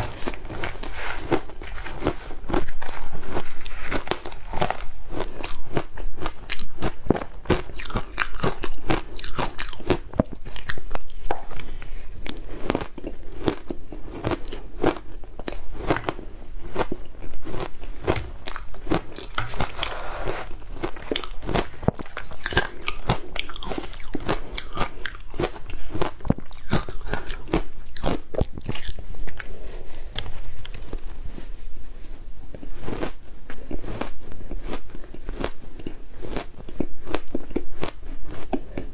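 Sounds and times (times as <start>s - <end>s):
crunching and chewing shaved ice: 0.0s - 31.5s, 32.5s - 38.9s.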